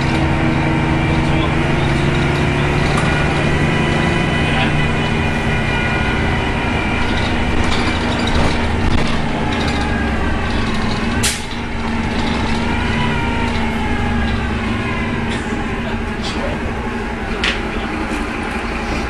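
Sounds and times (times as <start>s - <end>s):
bus engine howling whine: 0.0s - 19.0s.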